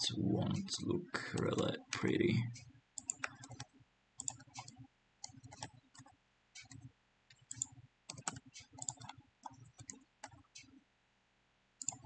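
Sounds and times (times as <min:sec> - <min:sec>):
keyboard and mouse clicks: 0:00.5 - 0:10.8, 0:11.8 - 0:12.0.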